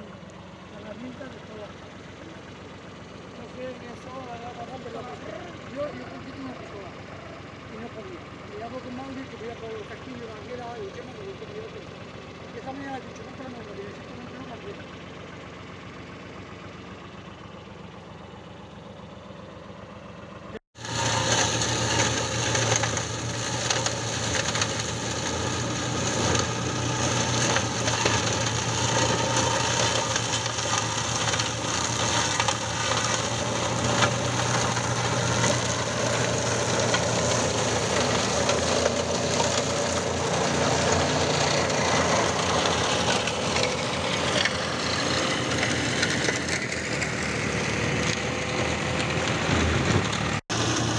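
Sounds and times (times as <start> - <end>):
mulcher shredding wood: 0.0 - 19.8, 20.4 - 50.9
tractor engine drone: 0.0 - 50.9.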